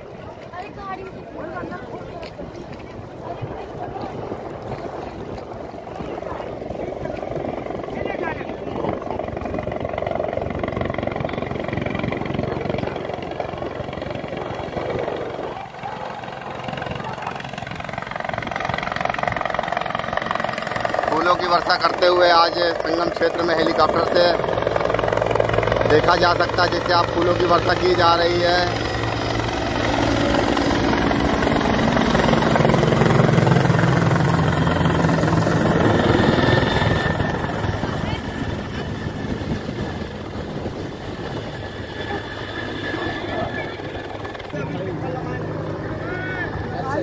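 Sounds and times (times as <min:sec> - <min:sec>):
helicopter rotor chopping: 0:00.0 - 0:47.0.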